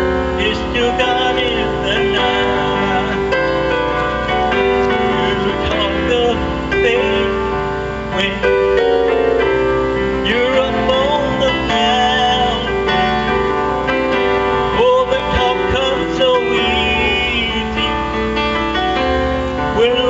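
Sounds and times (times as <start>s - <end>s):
electronic keyboard: 0.0s - 20.0s
man singing into microphone: 0.0s - 20.0s.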